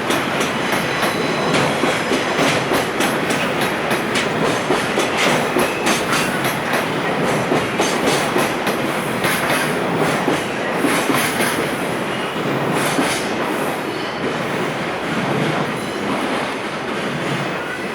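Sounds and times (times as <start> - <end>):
train wheels clattering: 0.0 - 17.6
train rumble: 0.0 - 17.9.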